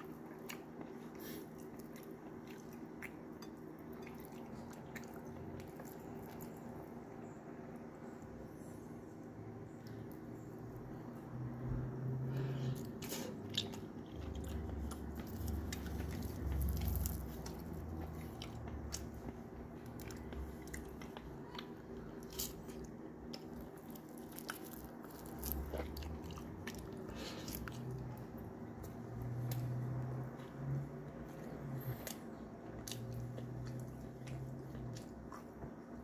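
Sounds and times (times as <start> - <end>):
person chewing and biting: 0.0 - 6.7, 12.7 - 35.7.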